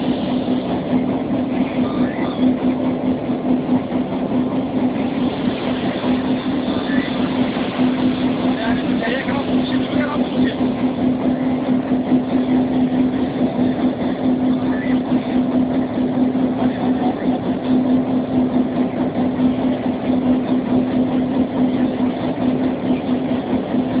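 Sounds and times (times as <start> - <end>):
diesel locomotive droning: 0.0 - 24.0.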